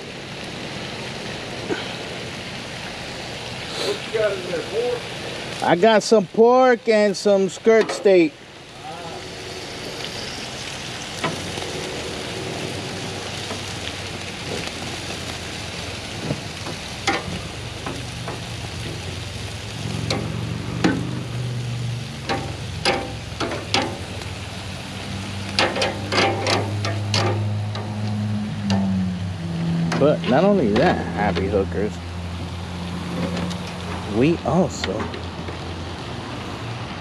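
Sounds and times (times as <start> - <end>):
meat sizzling on a grill: 0.0 - 37.0.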